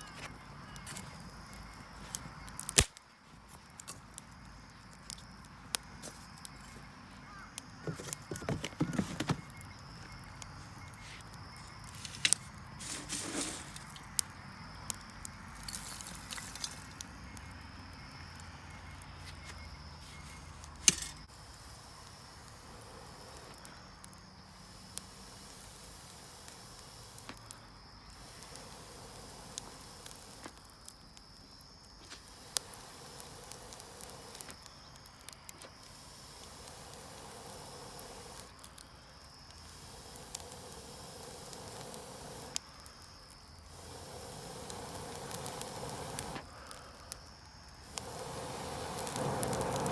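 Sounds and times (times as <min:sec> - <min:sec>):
high insect trill: 0:00.0 - 0:49.9
wood fire crackling: 0:00.0 - 0:49.9.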